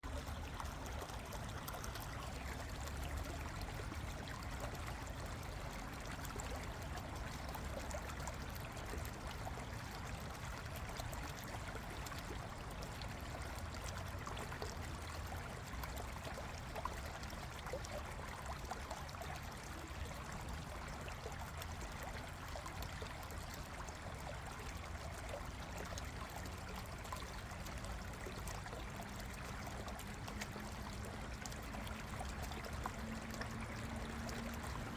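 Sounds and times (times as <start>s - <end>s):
stream babbling: 0.0s - 34.9s.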